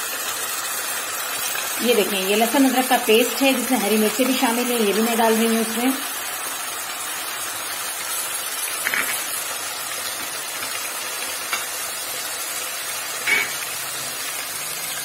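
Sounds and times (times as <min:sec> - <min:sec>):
oil sizzling in a pot: 0:00.0 - 0:15.0.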